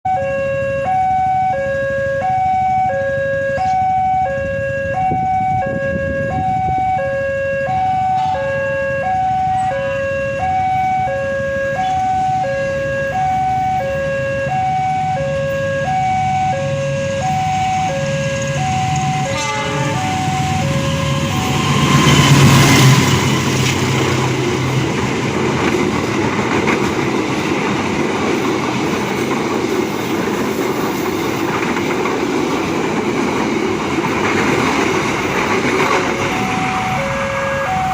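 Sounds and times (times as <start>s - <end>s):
train rumble and rail noise: 0.1s - 37.9s.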